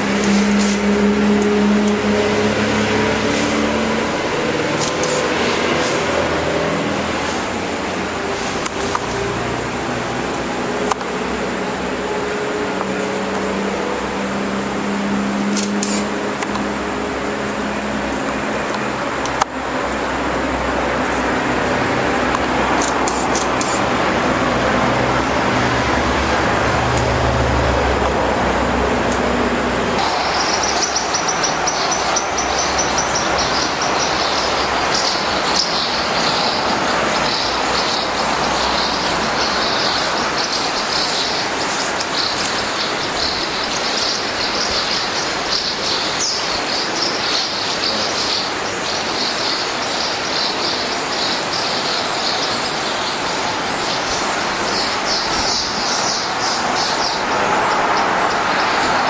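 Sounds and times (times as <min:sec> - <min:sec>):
insects chirping: 0:00.0 - 0:59.0
steady rushing noise: 0:00.0 - 0:59.0.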